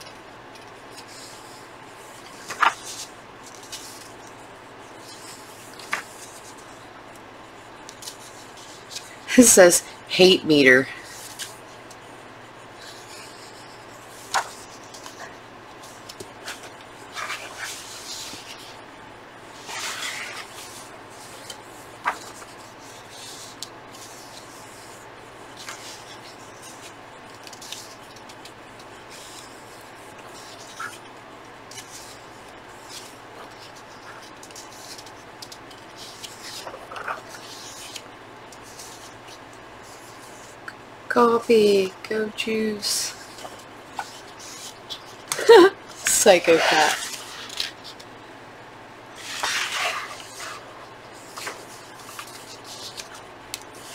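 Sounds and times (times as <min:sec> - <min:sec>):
paper pages rustling: 0:00.0 - 0:09.2, 0:11.0 - 0:40.6, 0:43.1 - 0:48.2, 0:49.1 - 0:53.9.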